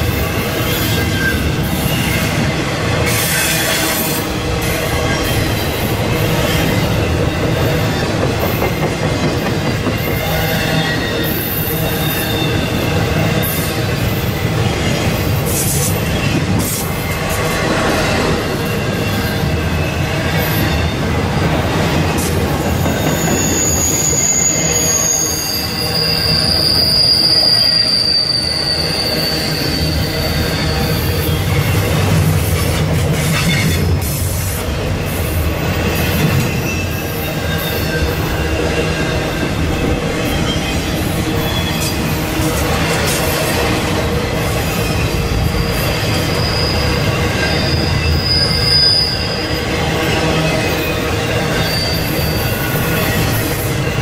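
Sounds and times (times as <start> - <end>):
high wheel squeal: 0.2 - 9.0, 9.6 - 21.1, 22.2 - 32.0, 35.0 - 54.0.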